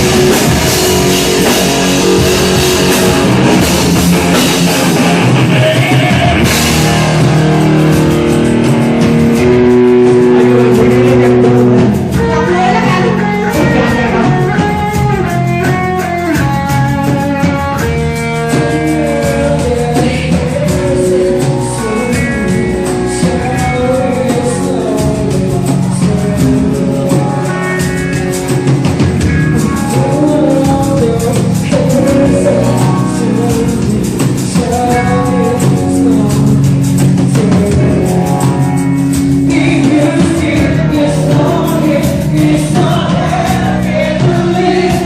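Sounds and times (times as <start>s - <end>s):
band music with guitar: 0.0s - 45.0s
person singing: 0.0s - 45.0s.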